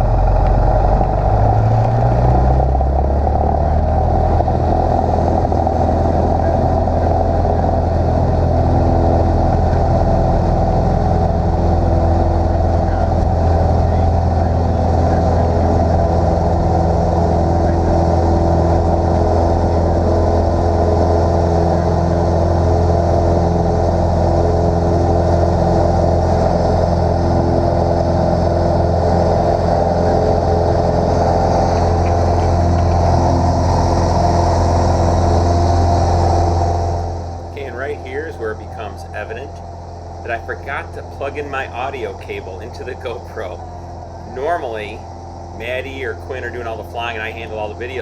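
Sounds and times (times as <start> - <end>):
small plane engine running: 0.0 - 48.0.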